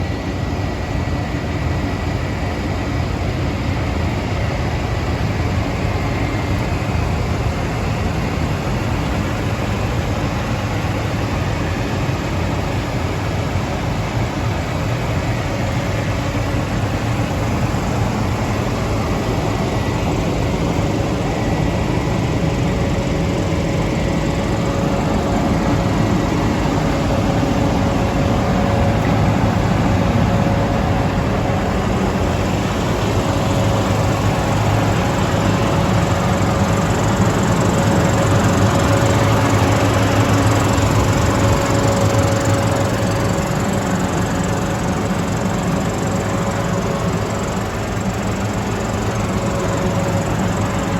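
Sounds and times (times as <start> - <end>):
combine harvester engine hum: 0.0 - 50.9.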